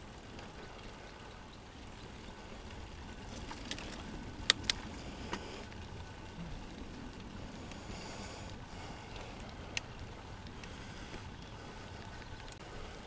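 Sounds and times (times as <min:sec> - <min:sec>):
bike clacking over bumps: 0:00.0 - 0:12.7
bike tyres rumbling on dirt: 0:00.0 - 0:13.0.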